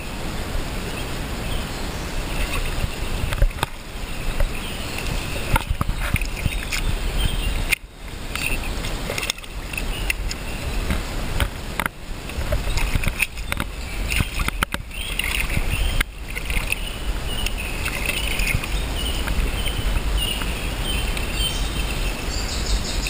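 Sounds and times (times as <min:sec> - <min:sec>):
river rushing: 0:00.0 - 0:23.0
fish splashing in water: 0:02.2 - 0:21.4.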